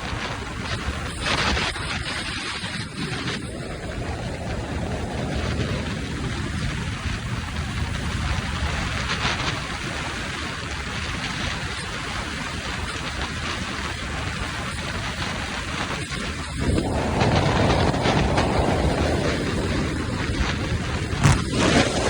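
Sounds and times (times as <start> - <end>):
rushing wind and road noise: 0.0 - 22.0.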